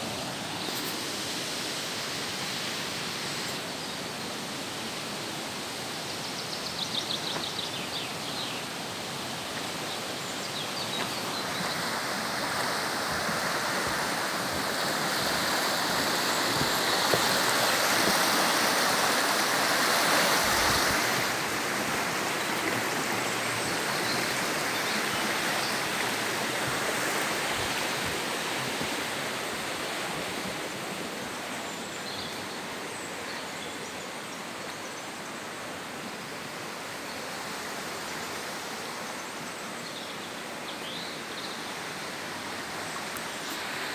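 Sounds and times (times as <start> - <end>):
river rushing: 0.0 - 43.9.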